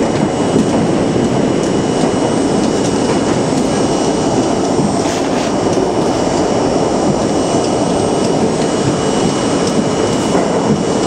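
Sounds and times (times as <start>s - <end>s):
high train whine: 0.0s - 11.0s
subway train rumbling: 0.0s - 11.0s.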